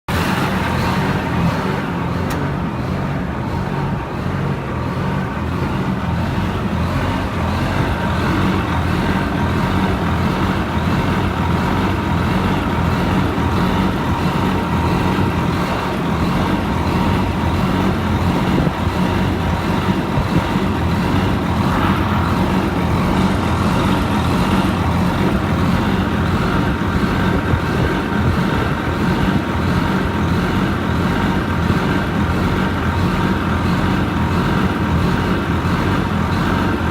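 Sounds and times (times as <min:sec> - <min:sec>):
diesel engine running: 0:00.0 - 0:36.9
higher whine: 0:00.1 - 0:29.9
steady whine: 0:00.1 - 0:36.9.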